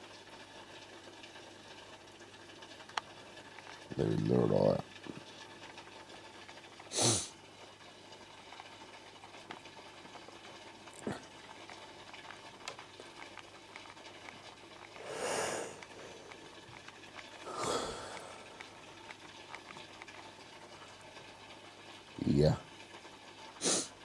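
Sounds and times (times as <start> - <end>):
aquarium filter and air bubbles: 0.0 - 24.0
small bubbling ticks: 0.0 - 24.0.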